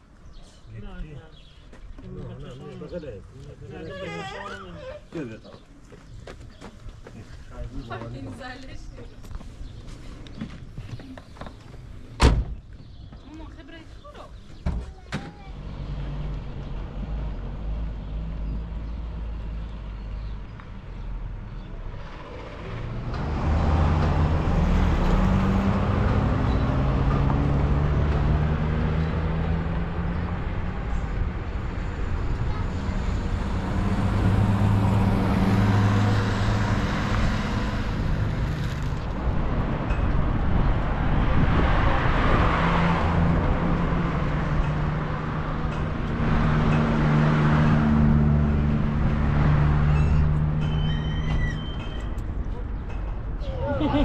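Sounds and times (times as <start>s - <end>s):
road noise: 0.0s - 54.0s.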